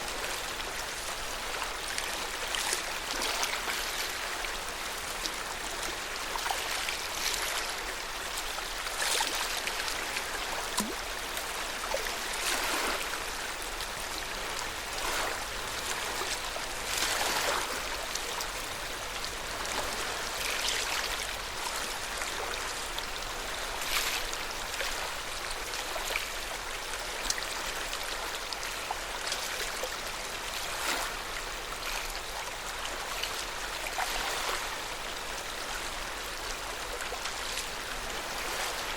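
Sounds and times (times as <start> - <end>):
lake water rippling and splashing: 0.0 - 38.9.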